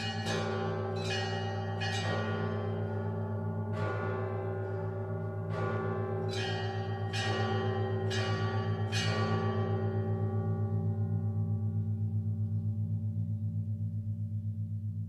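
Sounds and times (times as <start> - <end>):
church bell strikes: 0.0 - 14.9
pulsing hum of large bell: 0.0 - 15.0.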